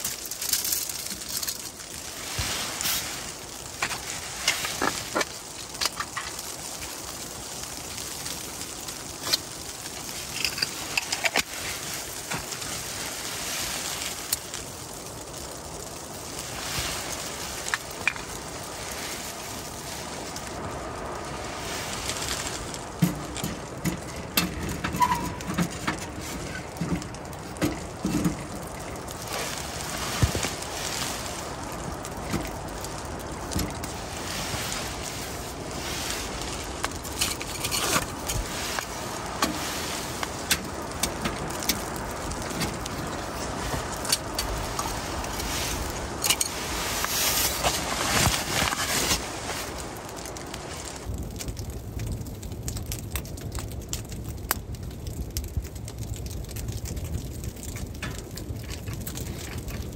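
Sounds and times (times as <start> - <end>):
wind on tent fabric: 0.0 - 59.9
wood fire crackling and popping: 0.0 - 59.9.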